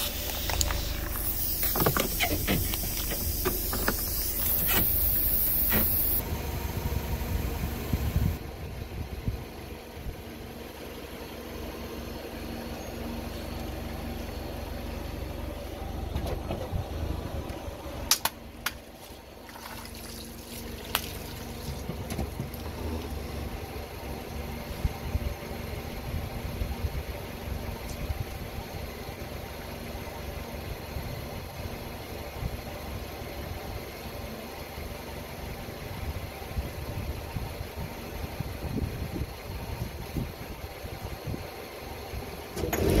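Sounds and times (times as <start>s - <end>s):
car engine idling: 0.0s - 19.5s, 20.2s - 43.0s.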